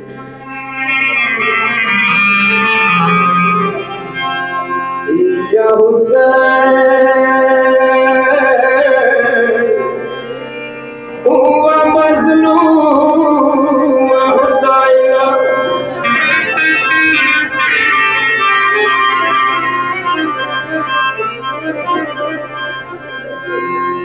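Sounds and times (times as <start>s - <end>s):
organ-like instrumental music: 0.0s - 24.0s.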